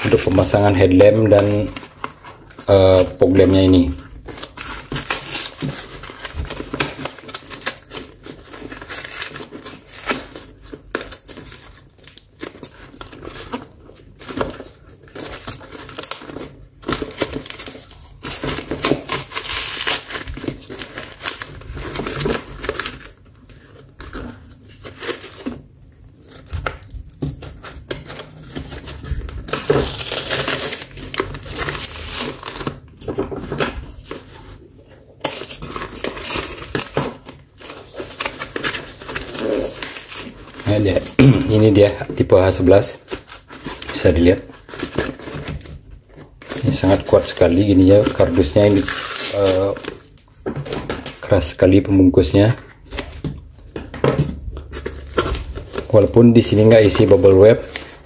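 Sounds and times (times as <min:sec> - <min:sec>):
cardboard box crinkling and tearing: 0:00.0 - 0:53.4, 0:54.1 - 0:58.0.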